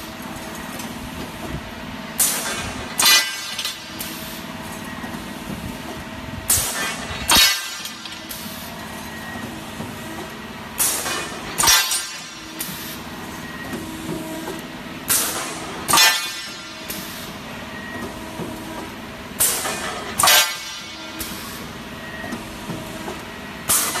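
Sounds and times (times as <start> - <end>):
loud bursts of machine noise: 0.0 - 24.0.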